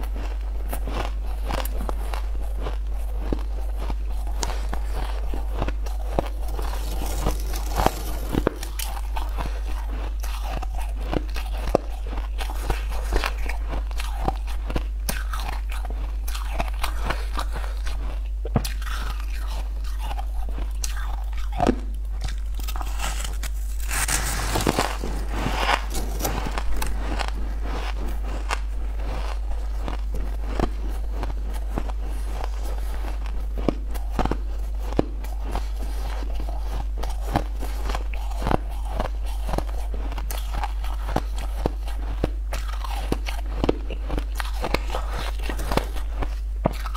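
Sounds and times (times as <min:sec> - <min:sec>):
ice crunching and chewing: 0:00.0 - 0:46.9
steady low hum: 0:00.0 - 0:46.9.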